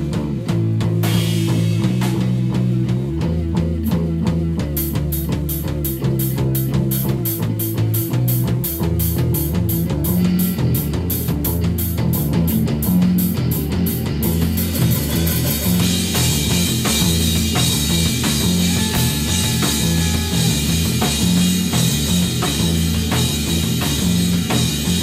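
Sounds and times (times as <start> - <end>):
bass line: 0.0 - 25.0
drum kit: 0.0 - 25.0
guitar: 0.0 - 25.0
rock music: 0.0 - 25.0.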